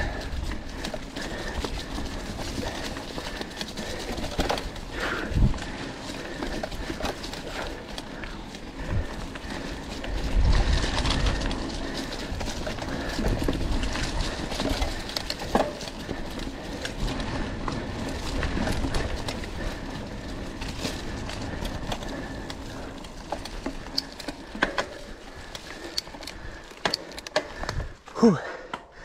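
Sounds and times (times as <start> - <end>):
bike rattling clicks and knocks: 0.0 - 29.0
bike tyre noise: 0.0 - 29.0.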